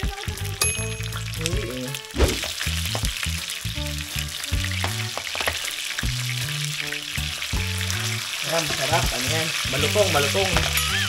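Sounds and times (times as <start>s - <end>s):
food sizzling: 0.0s - 11.0s
music with slow bass line: 0.0s - 11.0s.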